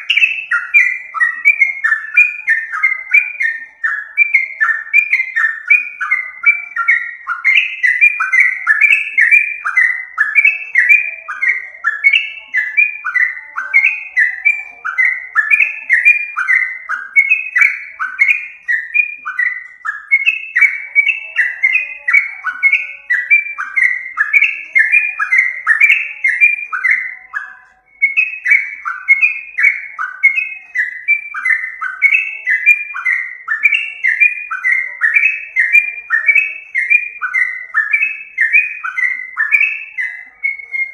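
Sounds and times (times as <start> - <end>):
bulbul song: 0.0 - 40.9.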